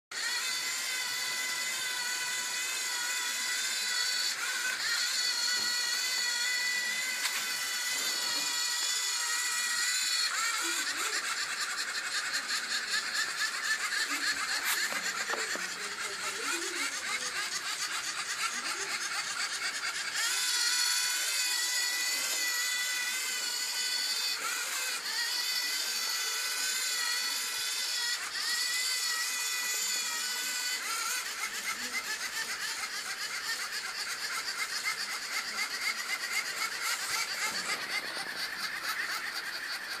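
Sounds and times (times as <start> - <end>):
servo motors whining: 0.1 - 40.0.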